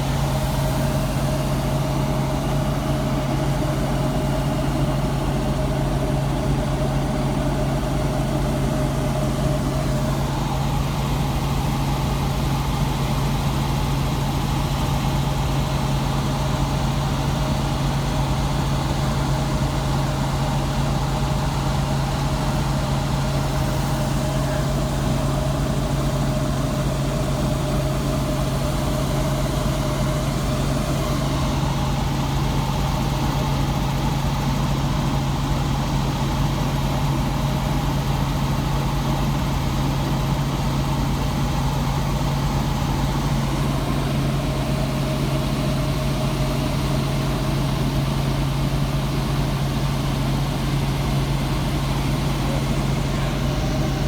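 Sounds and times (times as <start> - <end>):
constant low hum: 0.0 - 54.0.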